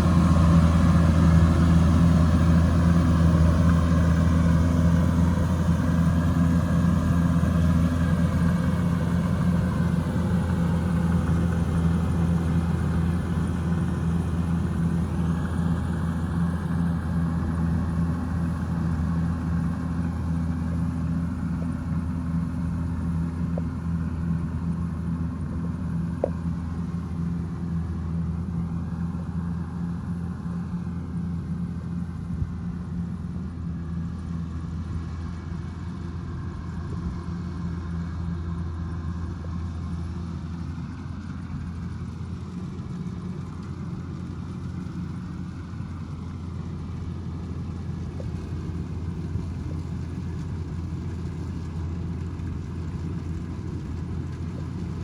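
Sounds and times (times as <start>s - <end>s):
combine harvester engine and threshing: 0.0s - 55.0s.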